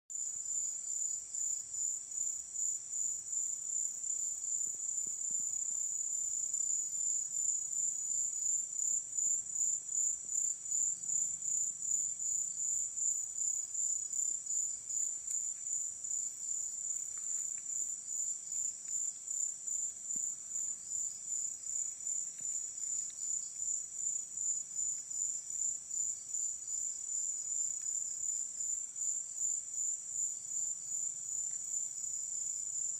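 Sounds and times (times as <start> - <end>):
crickets chirping: 0.2 - 32.9.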